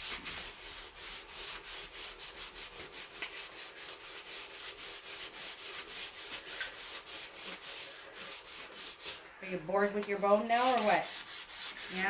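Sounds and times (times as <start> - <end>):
hand sanding car panel: 0.0 - 9.2, 10.5 - 12.0.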